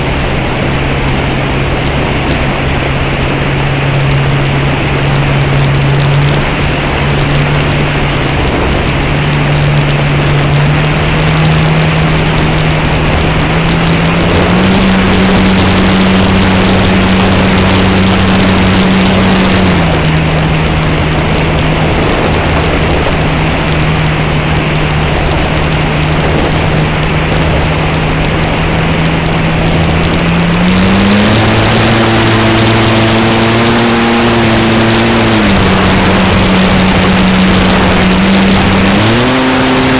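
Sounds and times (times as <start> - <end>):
electric motor and propeller whine: 0.0 - 22.6, 27.9 - 39.9
wind rush across microphone: 0.0 - 39.9.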